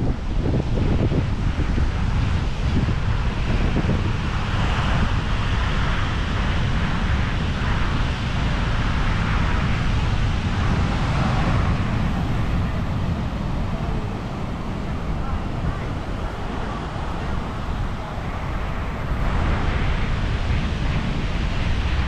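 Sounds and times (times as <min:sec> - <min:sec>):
surf breaking on beach: 0:00.0 - 0:22.0
wind noise on microphone: 0:00.0 - 0:22.0.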